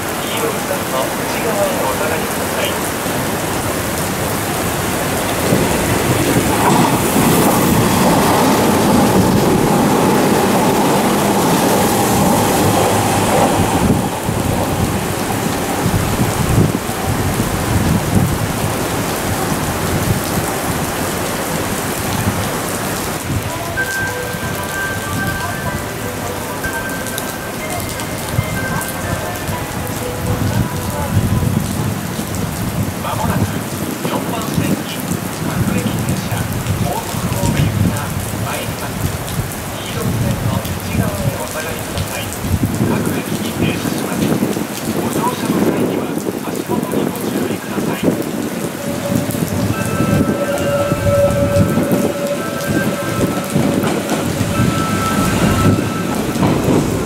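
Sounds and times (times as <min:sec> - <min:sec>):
train passing at speed: 0:00.0 - 0:46.0, 0:46.6 - 0:57.0
heavy rain pouring: 0:00.0 - 0:57.0.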